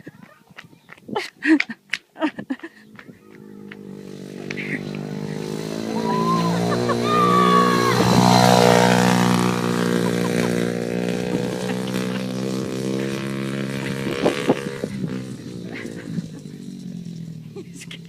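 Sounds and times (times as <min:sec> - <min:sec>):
dirt bike engine running: 0:02.7 - 0:18.0.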